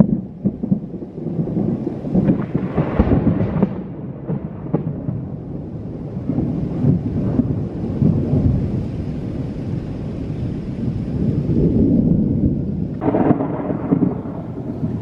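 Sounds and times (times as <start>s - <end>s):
rolling thunder rumble: 0.0s - 15.0s.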